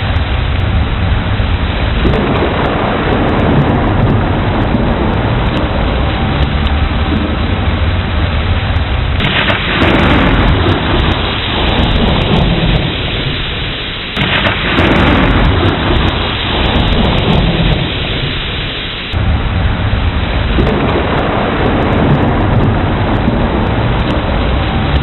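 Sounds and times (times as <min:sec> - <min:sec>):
heavy rain: 0:00.0 - 0:25.0
rolling thunder: 0:00.0 - 0:25.0.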